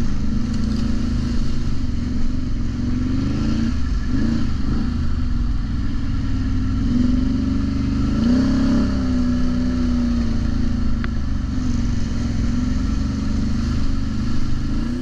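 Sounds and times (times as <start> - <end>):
atv engine running under throttle: 0.0 - 15.0.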